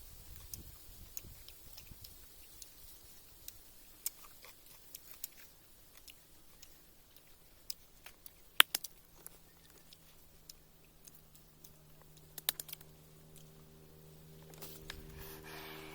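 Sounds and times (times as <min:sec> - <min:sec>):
steady low hum: 0:00.0 - 0:15.9
eating clicks and crunches: 0:00.3 - 0:15.1.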